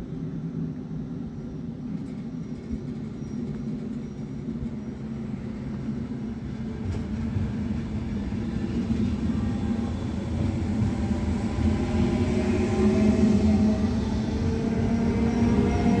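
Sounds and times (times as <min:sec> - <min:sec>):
faint train whine: 0:00.0 - 0:16.0
train wheels rumbling: 0:01.1 - 0:16.0.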